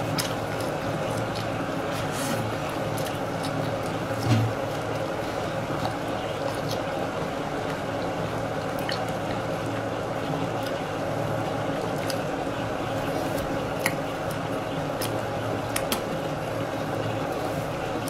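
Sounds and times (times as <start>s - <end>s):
chewing frozen ice cream: 0.0s - 16.6s.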